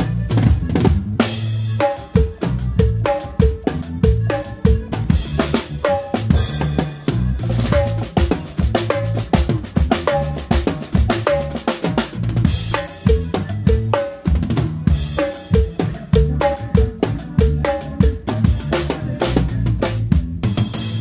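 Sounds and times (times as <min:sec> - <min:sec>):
drum kit playing a beat: 0:00.0 - 0:21.0
sustained bass notes: 0:00.0 - 0:21.0.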